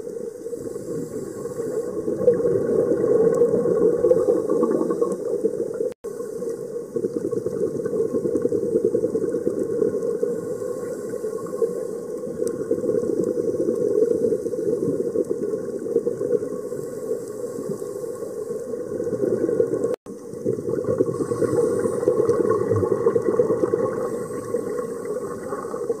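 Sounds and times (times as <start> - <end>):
muffled underwater rush: 0.0 - 26.0.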